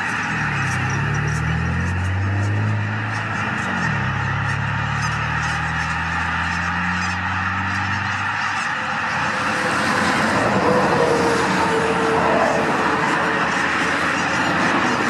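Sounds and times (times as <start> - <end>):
geese honking: 0.0 - 15.0
low steady drone: 0.0 - 15.0.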